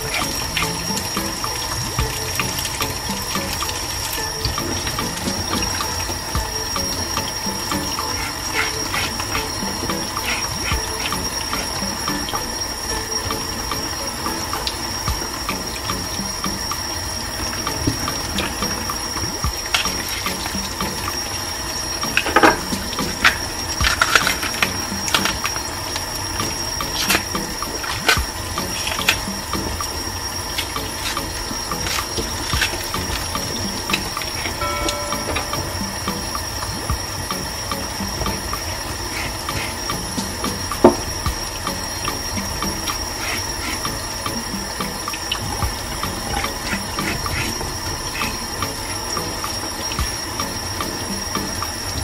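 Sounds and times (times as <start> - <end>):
tap water running into sink: 0.0 - 52.0.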